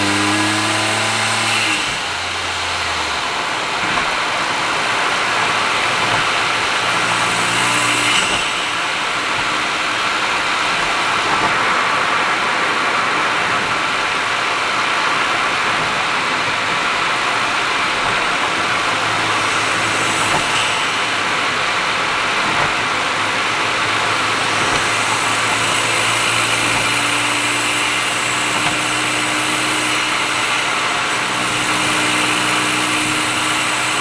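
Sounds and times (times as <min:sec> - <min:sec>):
car engine pulling: 0:00.0 - 0:34.0
road and tyre noise: 0:00.0 - 0:34.0.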